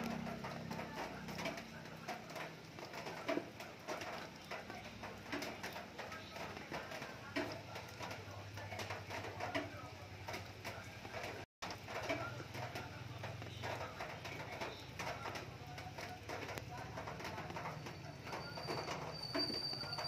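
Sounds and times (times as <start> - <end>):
light rain dripping and pattering: 0.0 - 20.0.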